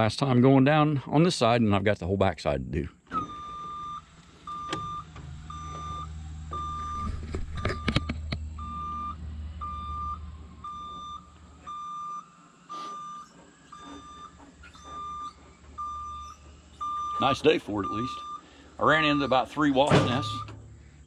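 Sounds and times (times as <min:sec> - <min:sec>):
lift motion alarm beeping: 0:03.1 - 0:21.0
low machine hum: 0:03.6 - 0:21.0.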